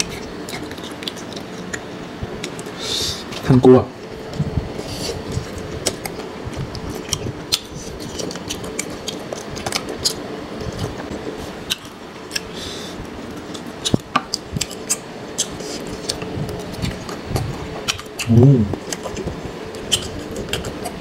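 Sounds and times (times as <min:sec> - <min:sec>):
wet chewing: 0:00.0 - 0:02.7, 0:04.9 - 0:12.6, 0:13.3 - 0:21.0.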